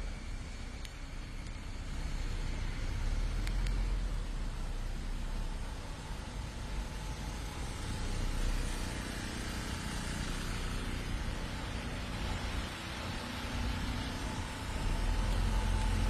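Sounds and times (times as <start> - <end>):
car engines running: 0.0 - 16.0.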